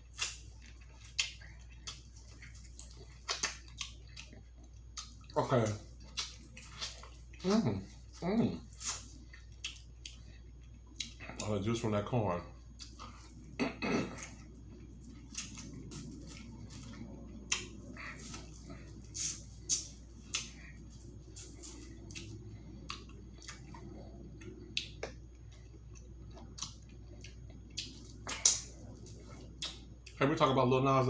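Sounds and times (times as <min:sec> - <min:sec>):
wet mouth chewing sounds: 0:00.0 - 0:11.6, 0:14.2 - 0:30.2
low steady hum: 0:00.0 - 0:31.0.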